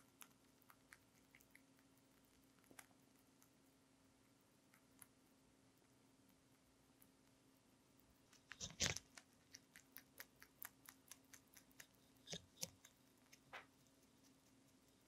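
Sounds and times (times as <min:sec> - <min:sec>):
rabbit crunching cucumber: 0:00.0 - 0:15.0.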